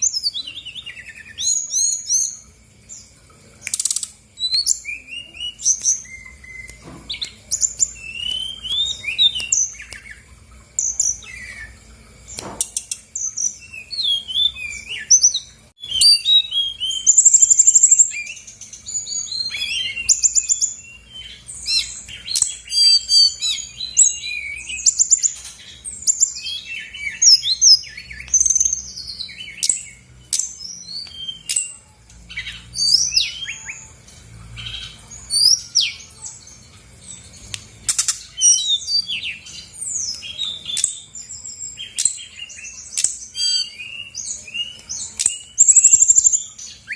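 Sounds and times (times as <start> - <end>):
bird singing whistled trills: 0.0 - 46.9.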